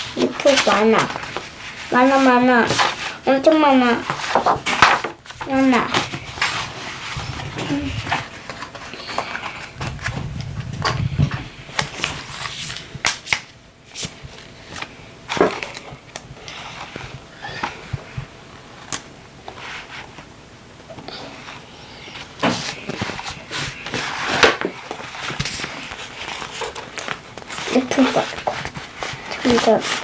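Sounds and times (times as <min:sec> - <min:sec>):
paper crinkling and rustling: 0:00.0 - 0:20.3, 0:21.0 - 0:30.0.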